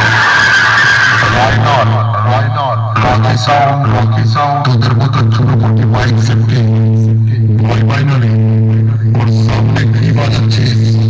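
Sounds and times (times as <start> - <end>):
deep bass note: 1.2 - 11.0.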